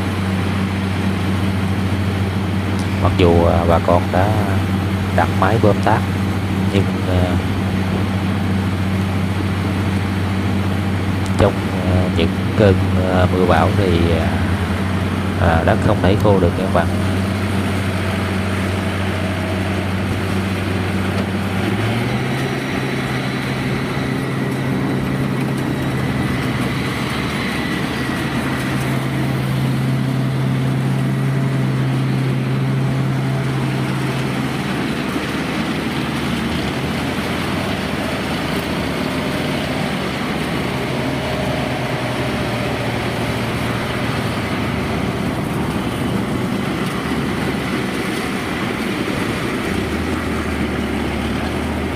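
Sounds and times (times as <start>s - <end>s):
combine harvester engine running: 0.0s - 51.9s.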